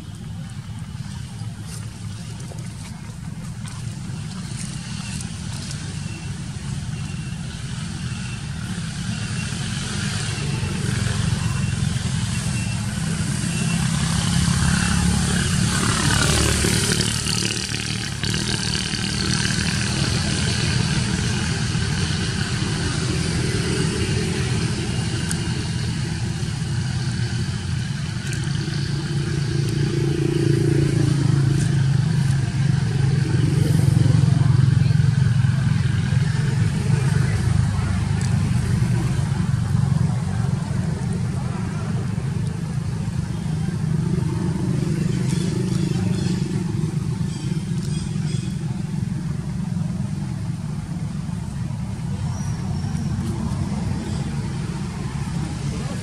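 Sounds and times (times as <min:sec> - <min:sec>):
passing vehicle engines: 0:00.0 - 0:56.0.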